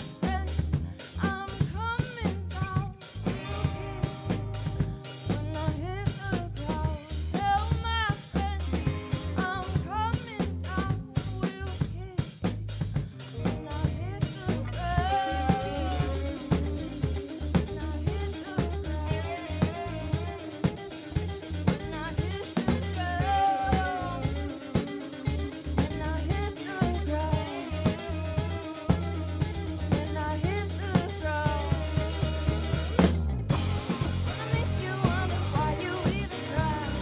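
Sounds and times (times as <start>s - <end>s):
woman singing: 0.0s - 33.1s, 34.2s - 37.0s
live rock band playing: 0.0s - 37.0s.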